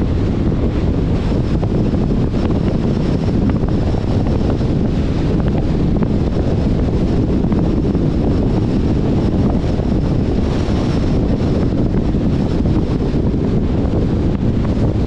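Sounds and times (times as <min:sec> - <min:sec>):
road noise rumble: 0:00.0 - 0:15.0
wind buffeting microphone: 0:00.0 - 0:15.0.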